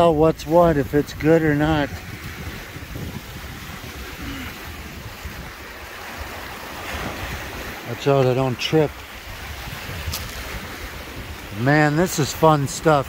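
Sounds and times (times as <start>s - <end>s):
waves washing against rocky shore: 0.0s - 13.0s
wind on microphone: 0.0s - 13.0s.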